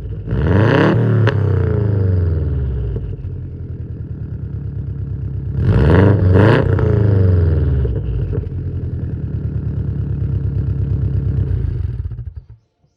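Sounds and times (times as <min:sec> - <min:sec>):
car engine idling and revving: 0:00.0 - 0:12.6.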